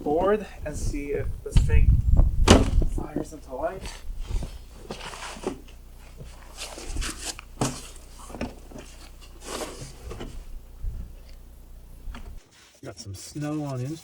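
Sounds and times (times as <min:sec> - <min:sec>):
faint low hum: 0:00.0 - 0:12.4.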